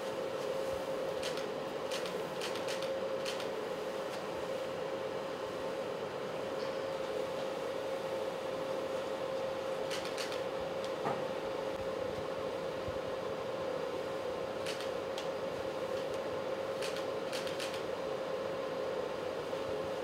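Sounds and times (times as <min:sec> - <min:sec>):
air conditioning hum: 0:00.0 - 0:20.0.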